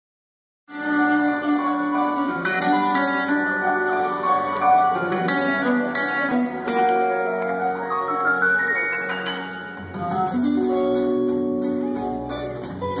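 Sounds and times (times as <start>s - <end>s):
live rock band playing: 0.7s - 13.0s
plucked guitar notes: 0.7s - 13.0s.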